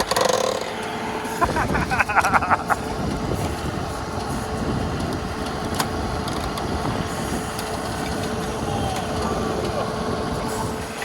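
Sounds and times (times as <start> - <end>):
diesel tractor engine rumble: 0.0 - 11.0
thin steady whine: 0.8 - 11.0.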